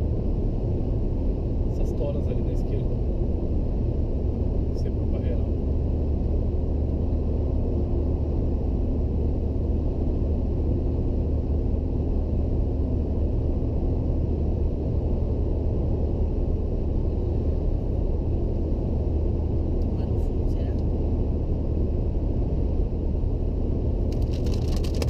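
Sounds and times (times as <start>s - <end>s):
car interior road rumble: 0.0s - 25.0s.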